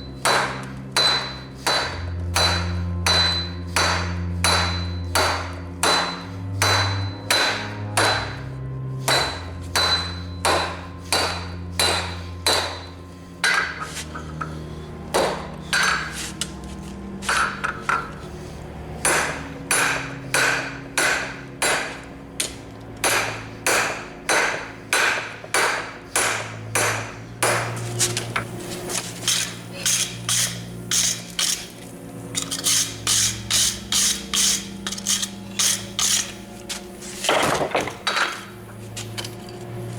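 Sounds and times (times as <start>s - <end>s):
low drone shifting in pitch: 0.0s - 39.9s
hammer striking steel on anvil: 0.1s - 16.5s, 17.2s - 18.2s, 19.0s - 31.8s, 32.4s - 38.8s.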